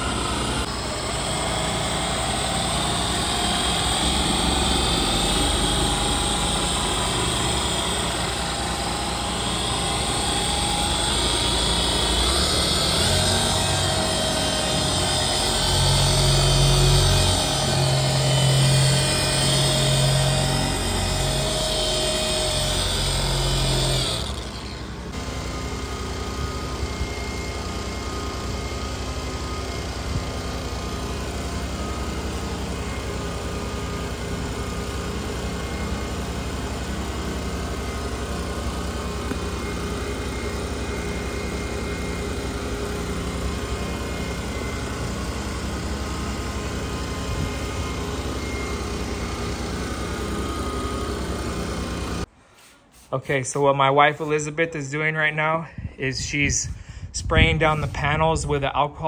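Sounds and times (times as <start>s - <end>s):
steady machine drone: 0.0s - 52.3s.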